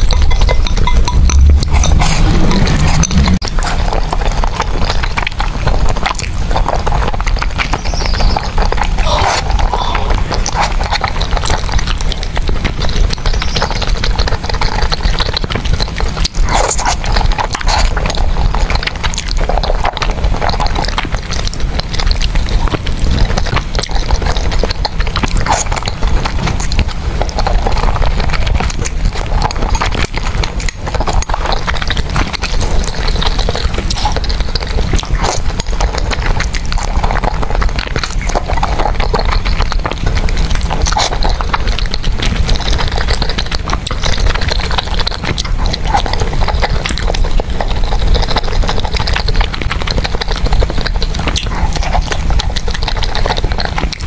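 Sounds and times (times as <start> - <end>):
chewing: 0.0 - 54.0
mouth clicks: 0.0 - 54.0.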